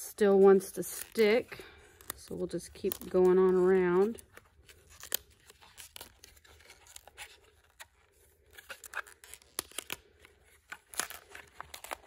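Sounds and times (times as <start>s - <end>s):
foil crinkling and crackling: 0.0s - 12.0s.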